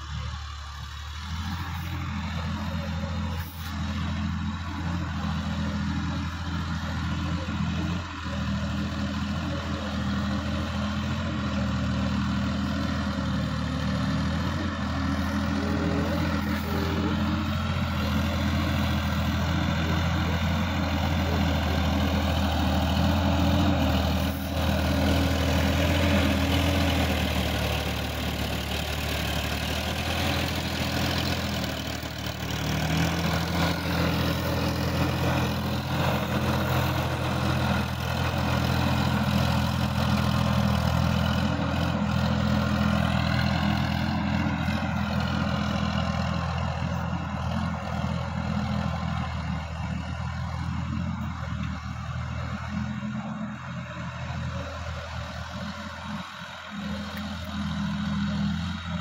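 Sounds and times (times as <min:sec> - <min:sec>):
rotary tiller in wet soil: 0:00.0 - 0:59.0
tractor diesel engine running: 0:00.0 - 0:59.0.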